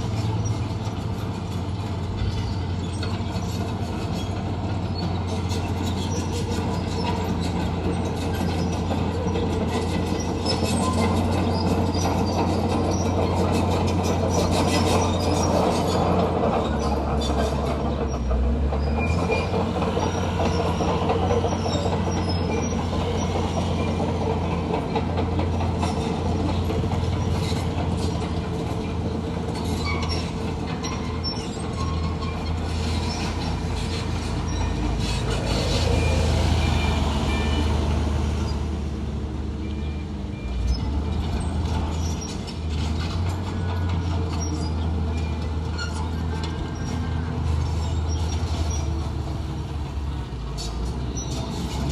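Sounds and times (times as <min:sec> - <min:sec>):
diesel engine running under load: 0:00.0 - 0:51.9
steel tracks clanking: 0:00.0 - 0:51.9.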